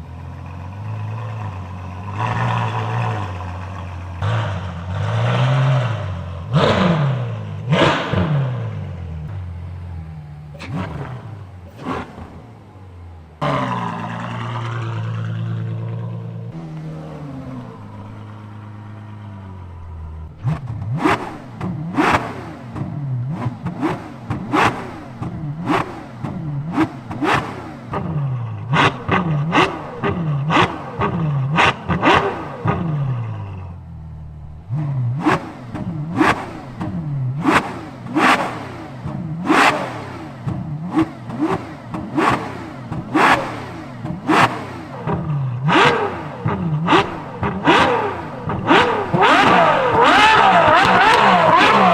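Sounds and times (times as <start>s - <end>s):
car engine idling and revving: 0.0s - 51.9s.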